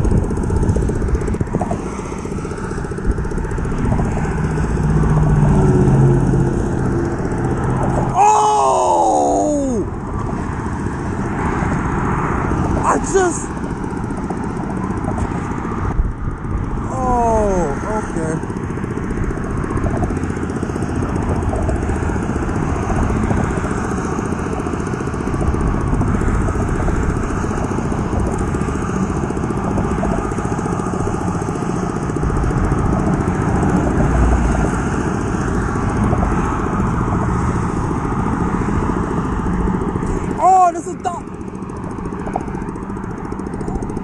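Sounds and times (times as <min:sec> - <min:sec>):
wind rumble on microphone: 0:00.0 - 0:08.2, 0:09.8 - 0:16.9, 0:17.8 - 0:40.4
traffic road noise: 0:00.0 - 0:44.0.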